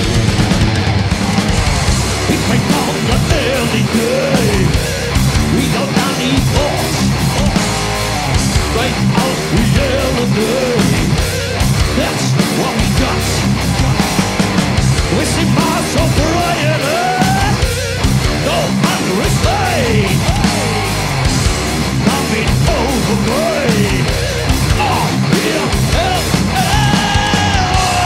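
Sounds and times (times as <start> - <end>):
heavy metal band playing: 0.0 - 28.0.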